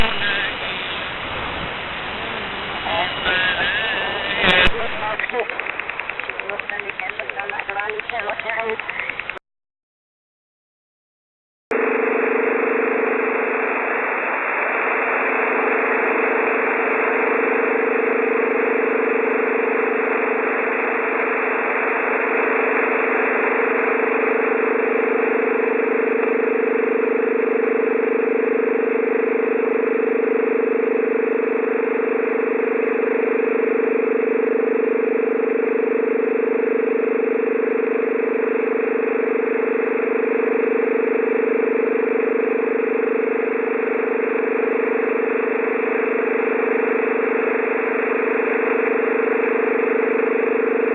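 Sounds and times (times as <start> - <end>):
droning radio buzz: 0.0 - 9.4, 11.7 - 50.9
radio static hiss: 0.0 - 9.4, 11.8 - 50.9.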